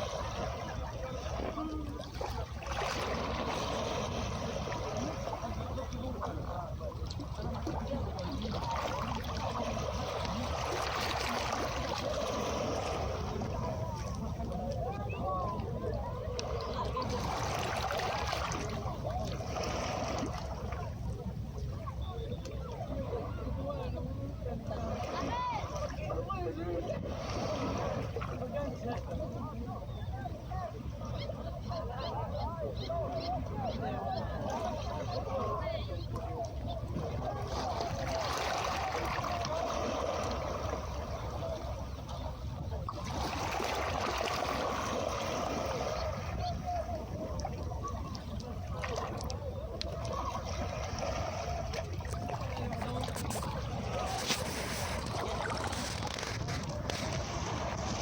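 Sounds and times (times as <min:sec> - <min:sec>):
gurgling water: 0:00.0 - 0:58.0
sea waves washing onto beach: 0:00.0 - 0:58.0.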